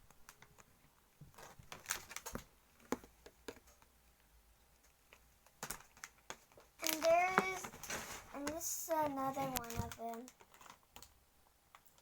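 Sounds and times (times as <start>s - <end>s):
plastic molds clicking and rustling: 0.0s - 12.0s.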